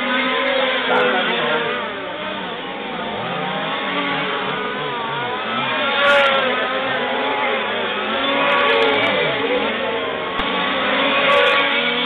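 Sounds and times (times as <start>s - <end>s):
rc truck engines revving: 0.0s - 12.0s.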